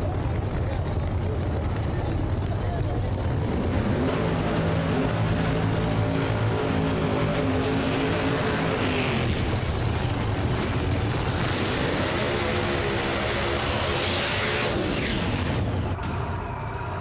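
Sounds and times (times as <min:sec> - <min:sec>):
race car engine revving: 0:00.0 - 0:16.2.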